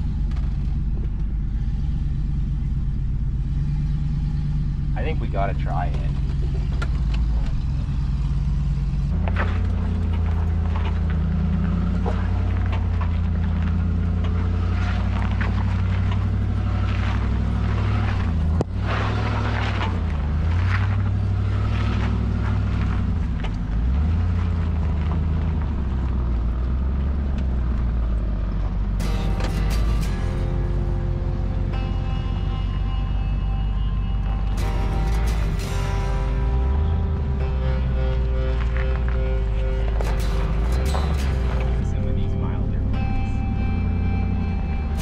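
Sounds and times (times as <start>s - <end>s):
engine running at low revs: 0.0s - 45.0s.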